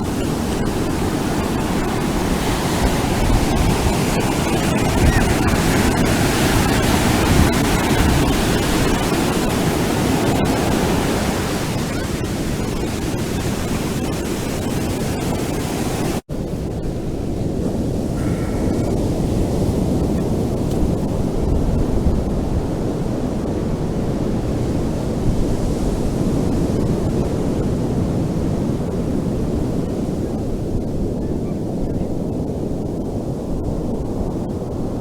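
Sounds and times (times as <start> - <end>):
ocean surf breaking on a beach: 0.0 - 35.0.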